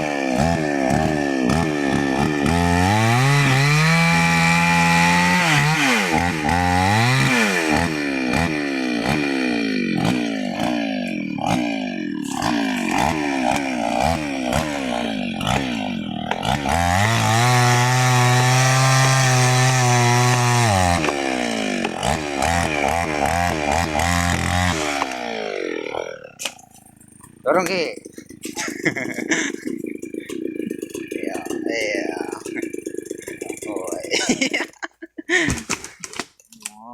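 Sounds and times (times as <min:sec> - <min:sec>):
chainsaw cutting wood: 0:00.0 - 0:36.4.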